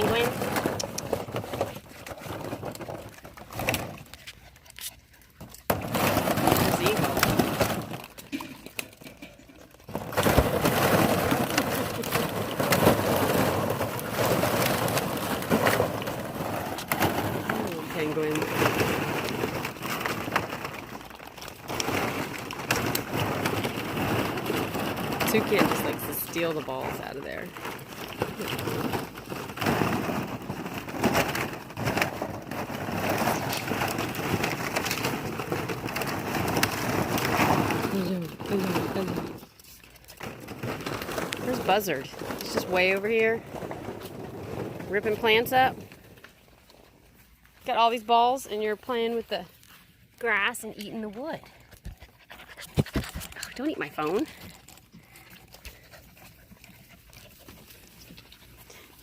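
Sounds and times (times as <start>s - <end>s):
plastic balls clattering: 0.0s - 51.9s, 52.7s - 59.0s.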